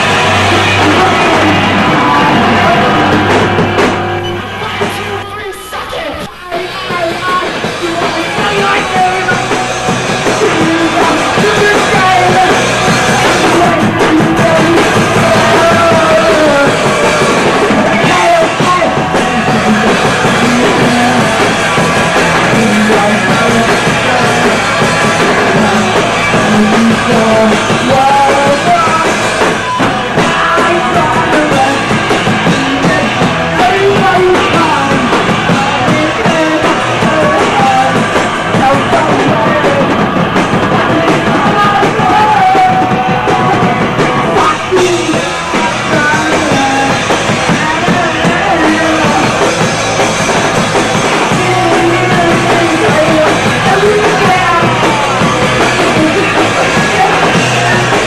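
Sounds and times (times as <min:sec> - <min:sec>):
singer shouting into microphone: 0:00.0 - 0:40.0, 0:40.7 - 0:49.7, 0:51.1 - 0:58.0
punk rock band playing live: 0:00.0 - 0:58.0.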